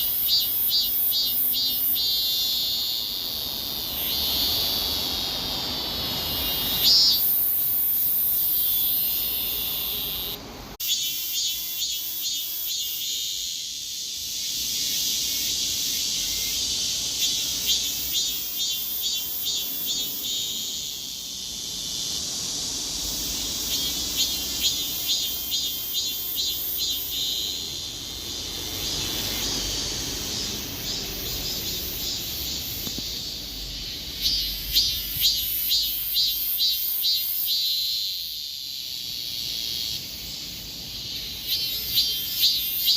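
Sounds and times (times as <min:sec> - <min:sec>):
cicada buzzing: 0:00.0 - 0:42.9
cicada pulsed calls: 0:00.0 - 0:42.9.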